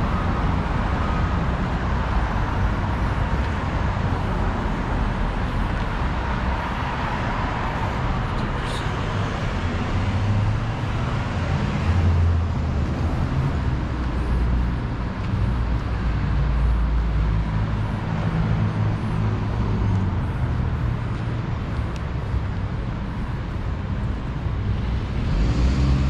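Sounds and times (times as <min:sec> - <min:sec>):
traffic engine rumble: 0:00.0 - 0:26.0.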